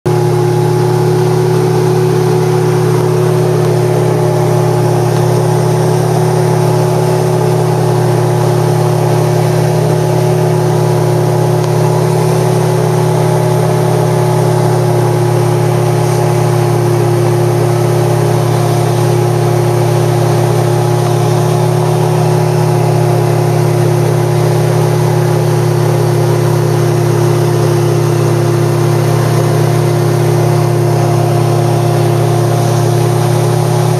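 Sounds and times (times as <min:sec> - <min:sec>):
light aircraft engine cruising: 0:00.1 - 0:33.9.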